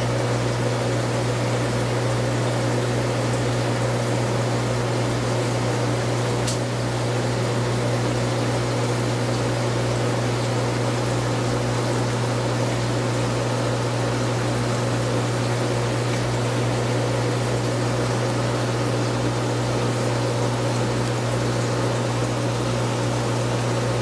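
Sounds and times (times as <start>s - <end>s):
aquarium pumps humming: 0.0s - 24.0s.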